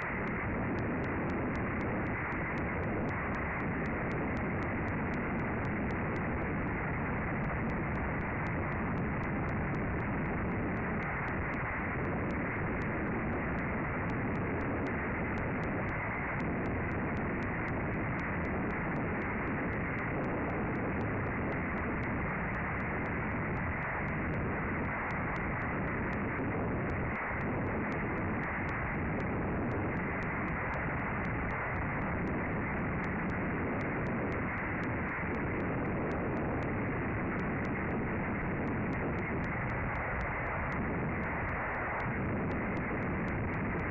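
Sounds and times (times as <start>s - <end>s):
strong wind on microphone: 0.0s - 43.9s.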